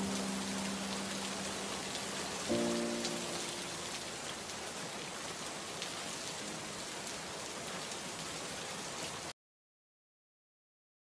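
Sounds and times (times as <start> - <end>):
steady rain falling: 0.0 - 9.4.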